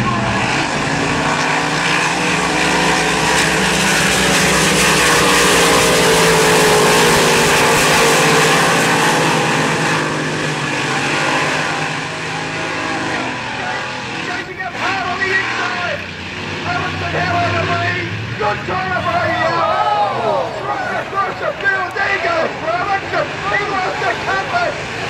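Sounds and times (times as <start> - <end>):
race boat engines passing: 0.0 - 25.0.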